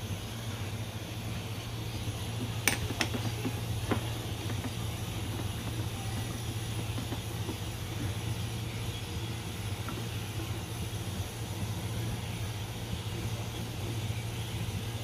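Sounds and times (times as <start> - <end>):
liquid boiling and bubbling: 0.0 - 15.0.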